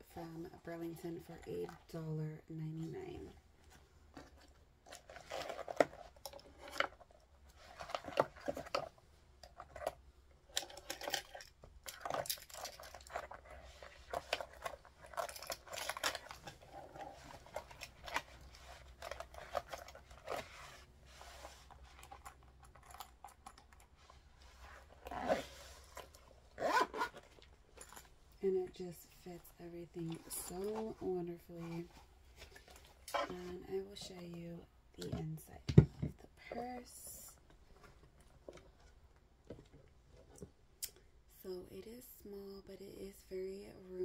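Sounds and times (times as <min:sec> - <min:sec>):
rustling and crinkling: 0:00.1 - 0:40.8.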